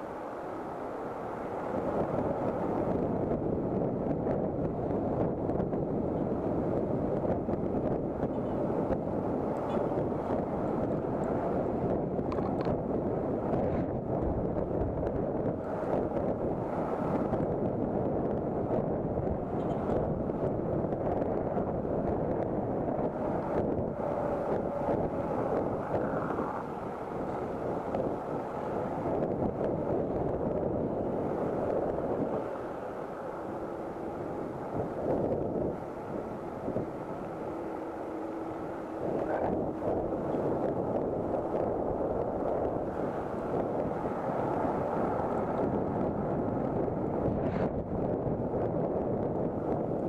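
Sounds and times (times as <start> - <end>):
road and traffic roar: 0.0 - 50.0
wind rushing over microphone: 0.0 - 50.0.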